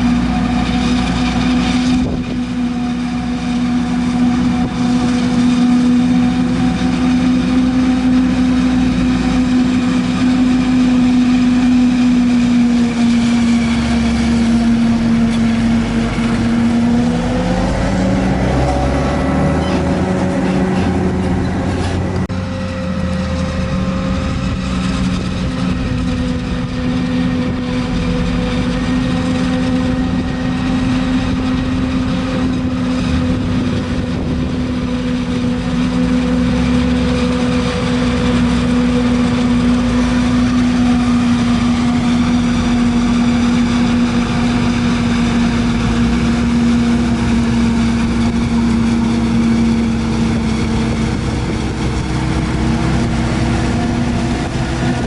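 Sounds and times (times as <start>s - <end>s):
harvester and tractor engines: 0.0s - 55.0s.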